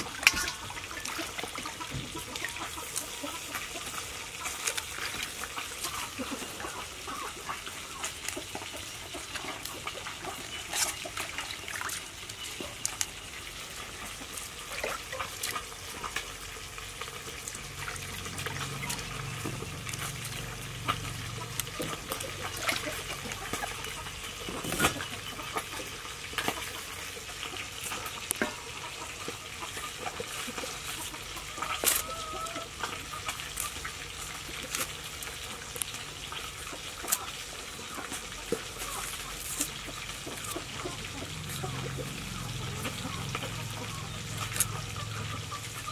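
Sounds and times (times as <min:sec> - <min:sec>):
water sloshing in metal basin: 0:00.0 - 0:45.9.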